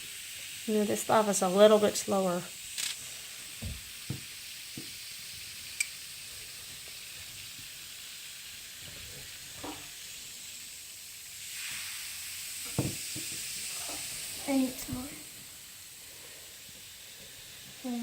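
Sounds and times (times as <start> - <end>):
foaming fizzing hiss: 0.0 - 18.0.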